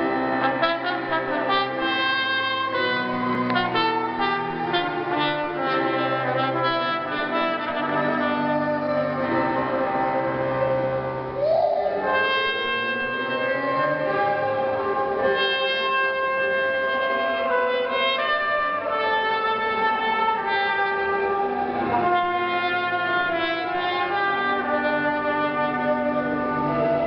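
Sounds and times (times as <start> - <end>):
clarinet and brass melody: 0.0 - 27.0.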